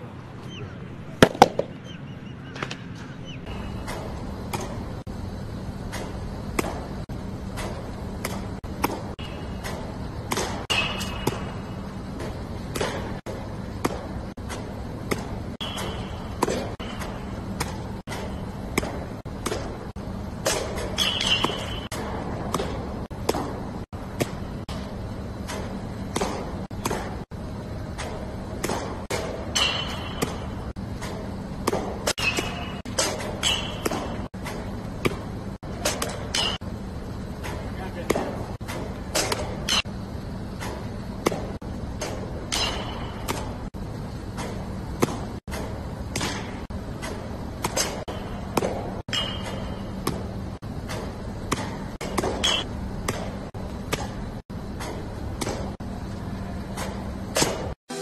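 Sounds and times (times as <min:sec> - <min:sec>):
steady low hum: 0:00.0 - 0:58.0
baseballs smacking into a mitt: 0:01.2 - 0:01.8, 0:05.9 - 0:27.3, 0:27.9 - 0:36.7, 0:37.4 - 0:43.6, 0:44.2 - 0:55.8, 0:56.7 - 0:57.8.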